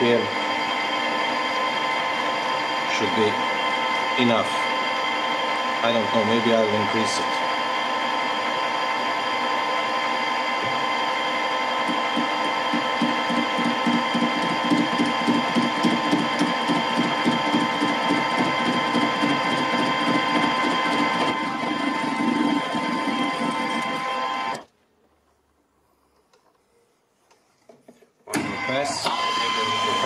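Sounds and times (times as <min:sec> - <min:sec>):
lathe tool chatter: 0:00.0 - 0:24.6, 0:28.3 - 0:30.0
metal lathe whine: 0:00.0 - 0:24.6, 0:28.3 - 0:30.0.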